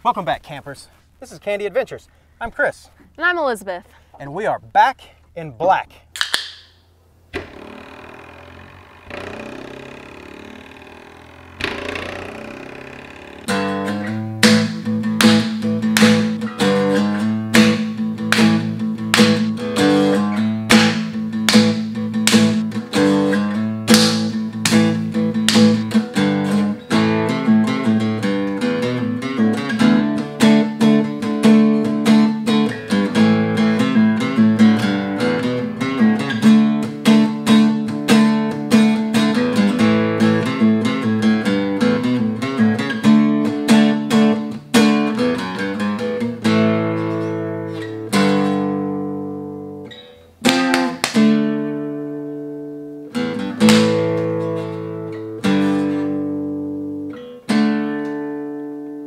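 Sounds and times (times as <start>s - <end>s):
acoustic guitar picking and strumming: 3.2s - 6.5s, 7.3s - 59.0s.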